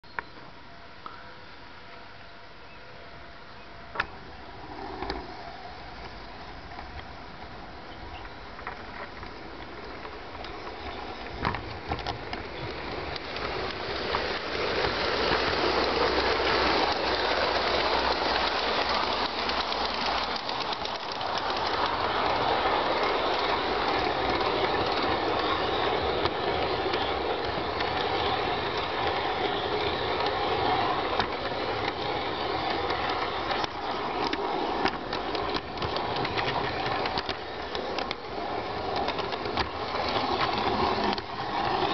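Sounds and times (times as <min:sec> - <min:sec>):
model train wheels rumbling on rail: 0:03.9 - 0:41.9
clicks over rail joints: 0:08.2 - 0:41.9.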